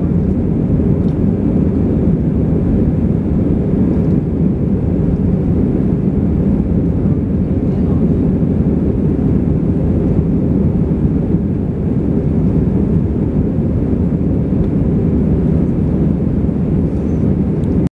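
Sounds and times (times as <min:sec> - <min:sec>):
airflow noise: 0:00.0 - 0:17.9
jet engine drone: 0:00.0 - 0:17.9.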